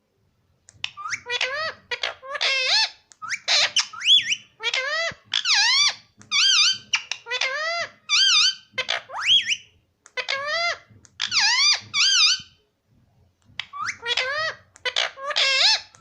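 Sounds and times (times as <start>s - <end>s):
parakeet squeaky calls: 0.8s - 12.6s, 13.6s - 16.0s.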